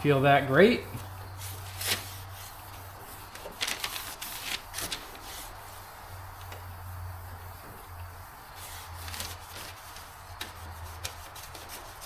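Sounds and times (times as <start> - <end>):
scraping on car body panel: 1.0 - 12.0.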